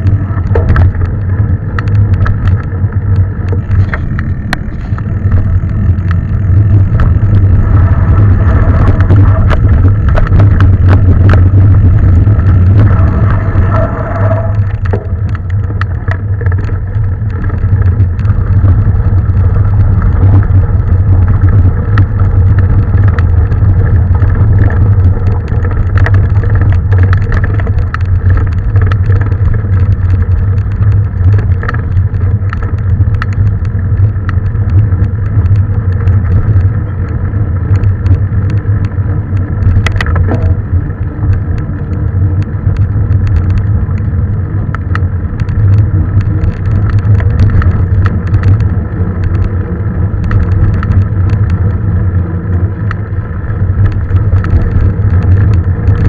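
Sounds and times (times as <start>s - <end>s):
bike rattling and clicking: 0.0s - 56.0s
wind and tyres rumbling: 0.0s - 56.0s.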